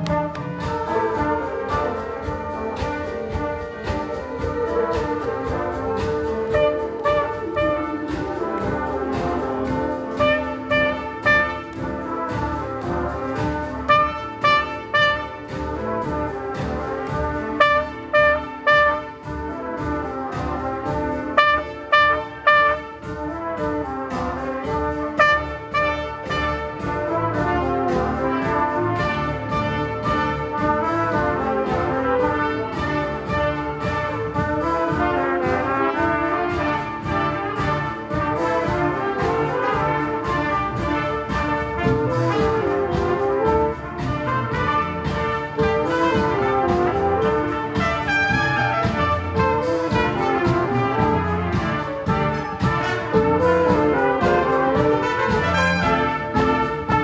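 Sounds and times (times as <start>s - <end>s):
brass ensemble playing: 0.0s - 57.0s
short stabbed brass notes: 0.0s - 57.0s.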